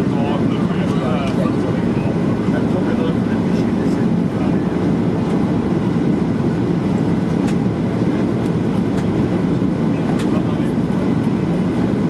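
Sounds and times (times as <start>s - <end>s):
airliner cabin roar: 0.0s - 12.0s.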